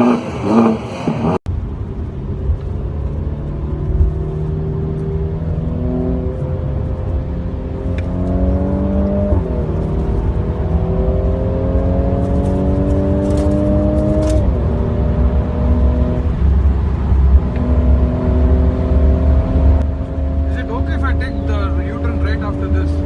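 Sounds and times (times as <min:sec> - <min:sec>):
car engine accelerating: 0:00.0 - 0:23.0
heavy low rumble: 0:00.2 - 0:23.0.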